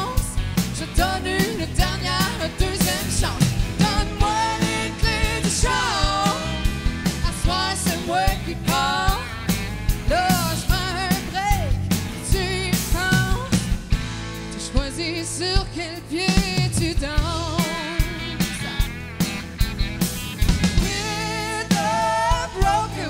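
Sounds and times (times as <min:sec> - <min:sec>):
woman singing: 0:00.0 - 0:09.4, 0:10.1 - 0:13.7, 0:14.5 - 0:18.3, 0:20.8 - 0:23.0
band with guitars and drums: 0:00.0 - 0:23.0.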